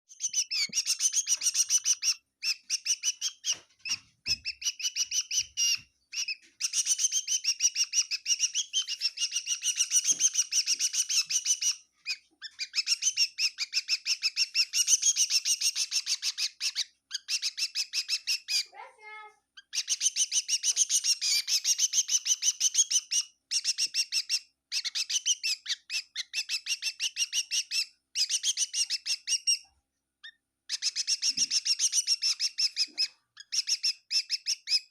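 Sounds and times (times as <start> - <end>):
small bird chirping: 0.1 - 18.9, 19.5 - 34.9.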